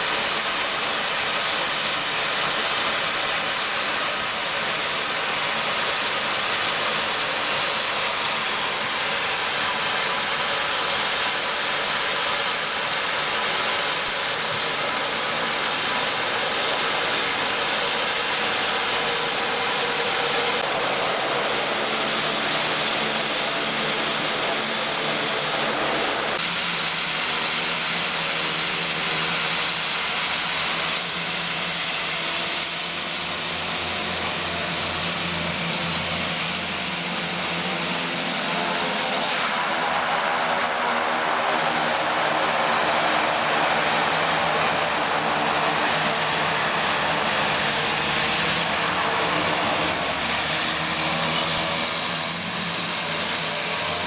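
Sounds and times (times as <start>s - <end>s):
turboprop engines whining: 0.0s - 54.0s.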